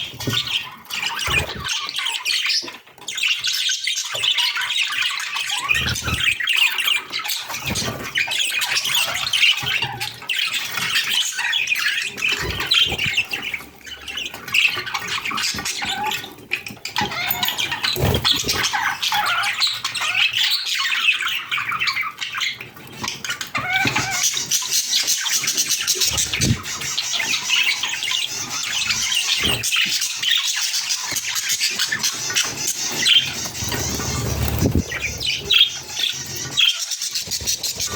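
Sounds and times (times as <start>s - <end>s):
budgerigars chattering and warbling: 0.0s - 37.9s.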